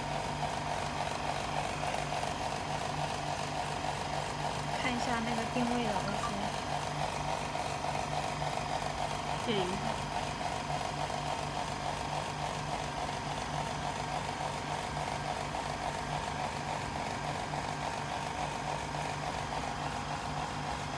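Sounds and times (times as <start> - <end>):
machinery hum with pulsing throb: 0.0 - 20.9.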